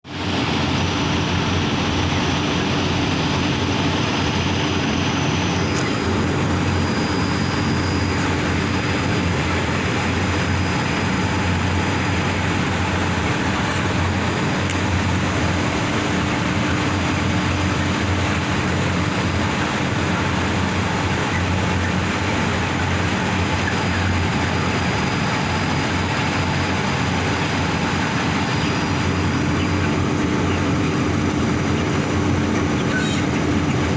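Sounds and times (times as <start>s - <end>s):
machinery roaring: 0.1s - 33.9s.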